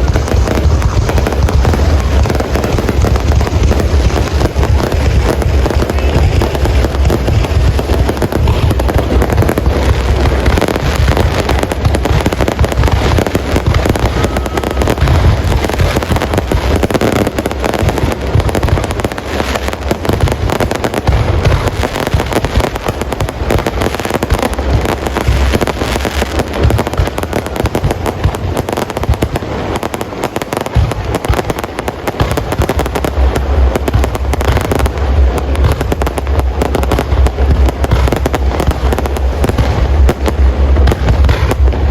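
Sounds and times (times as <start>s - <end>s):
deep firework booms: 0.0s - 41.9s
fireworks crackling and popping: 0.0s - 41.9s.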